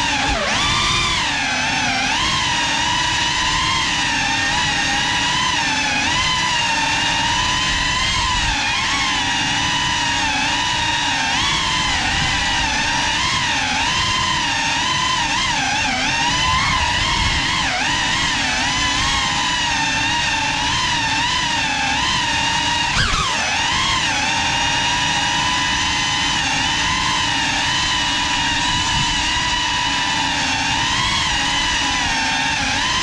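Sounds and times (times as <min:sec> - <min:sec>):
drone motors whining: 0:00.0 - 0:33.0.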